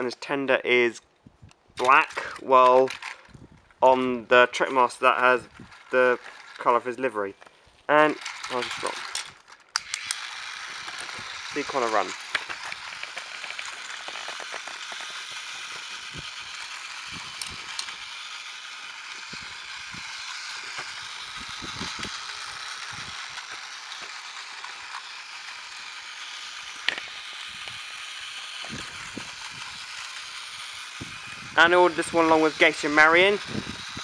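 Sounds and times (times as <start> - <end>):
toy train motor whirring: 0.0 - 34.0
track clicks and rattles: 1.4 - 34.0.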